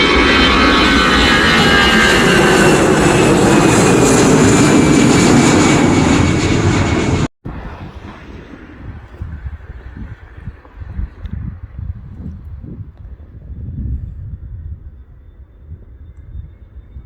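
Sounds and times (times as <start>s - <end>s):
aircraft engines roaring: 0.0s - 17.0s.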